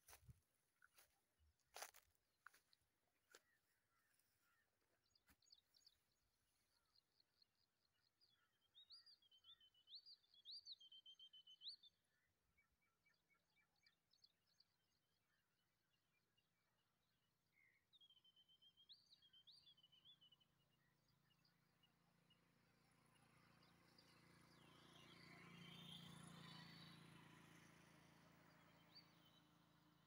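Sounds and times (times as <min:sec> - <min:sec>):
bird song: 0:01.7 - 0:30.0.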